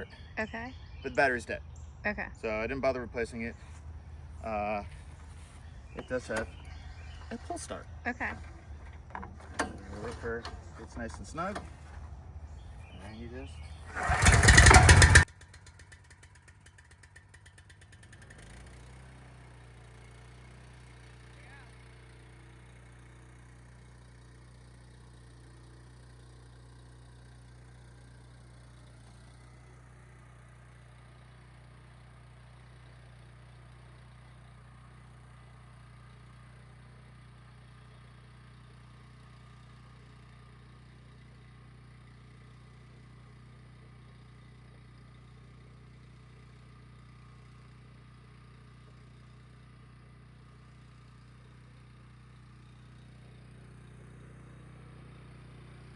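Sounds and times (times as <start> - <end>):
tiller engine running: 3.6 - 55.9.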